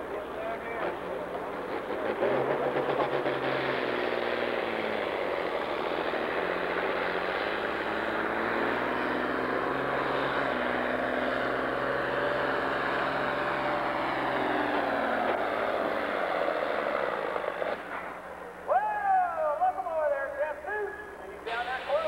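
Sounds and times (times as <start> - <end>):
tractor diesel engine under load: 0.0 - 18.7.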